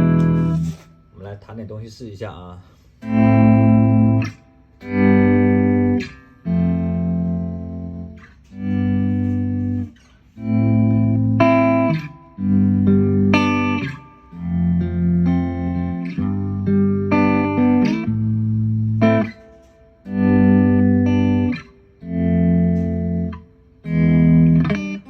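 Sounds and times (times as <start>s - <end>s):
electric guitar chords: 0.0s - 1.1s, 3.0s - 25.0s.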